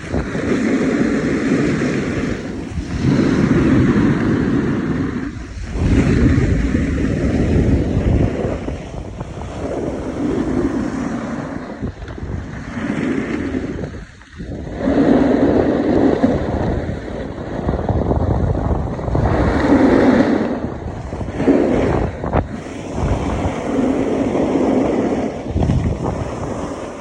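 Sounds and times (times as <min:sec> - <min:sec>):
snowboard scraping snow: 0:00.0 - 0:27.0
wind rushing over microphone: 0:00.0 - 0:27.0.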